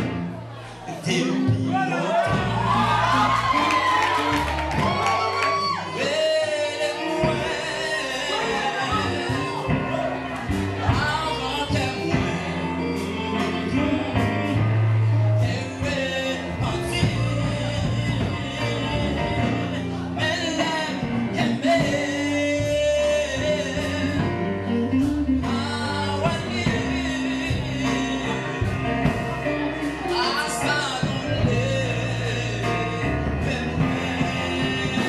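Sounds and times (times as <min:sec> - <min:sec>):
instrumental accompaniment: 0:00.0 - 0:35.0
man singing: 0:00.7 - 0:35.0.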